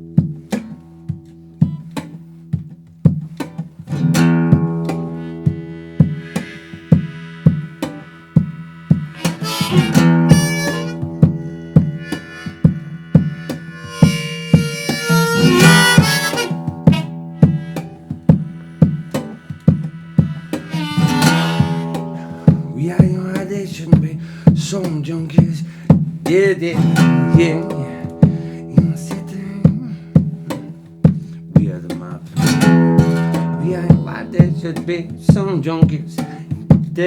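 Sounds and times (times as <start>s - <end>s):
acoustic guitar strumming: 0.0s - 37.0s
harmonica: 3.9s - 37.0s.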